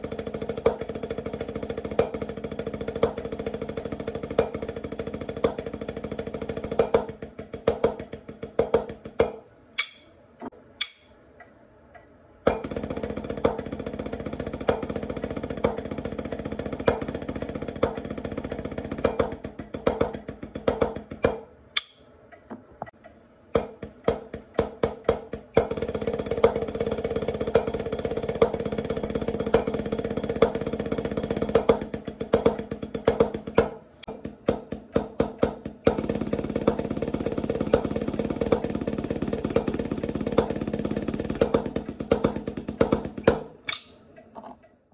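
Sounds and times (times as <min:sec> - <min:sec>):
snare drum rolls: 0:00.0 - 0:10.1, 0:12.5 - 0:21.5, 0:23.6 - 0:43.9.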